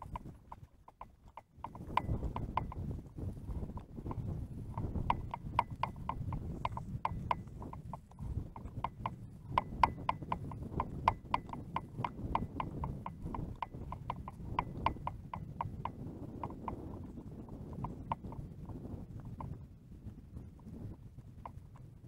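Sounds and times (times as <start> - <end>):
rapid regular clicking: 0.0 - 19.6
steady low rumble: 1.8 - 22.0.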